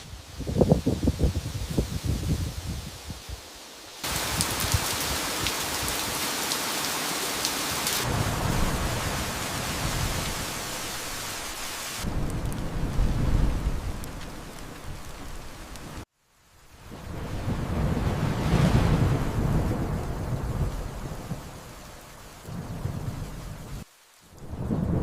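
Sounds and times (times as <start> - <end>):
wind hiss with crackles: 0.0 - 25.0.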